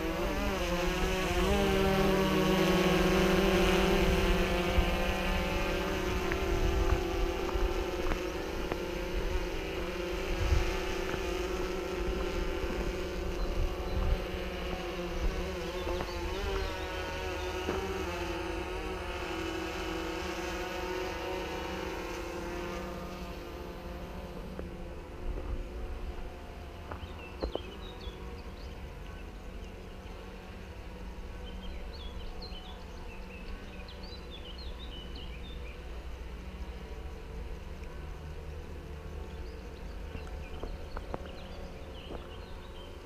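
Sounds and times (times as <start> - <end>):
drone propellers buzzing: 0.0 - 43.0.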